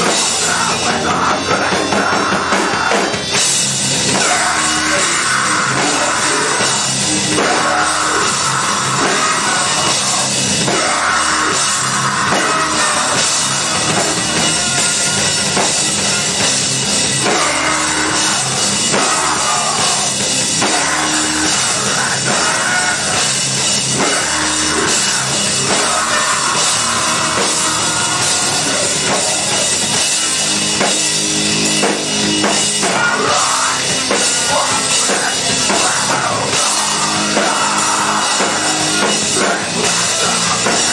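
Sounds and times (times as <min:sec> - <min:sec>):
live heavy rock band: 0:00.0 - 0:40.9.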